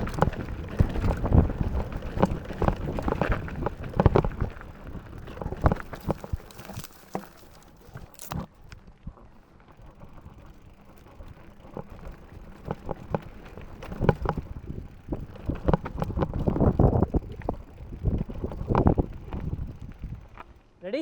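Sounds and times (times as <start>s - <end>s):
bike rattling over rocky trail: 0.0s - 21.0s.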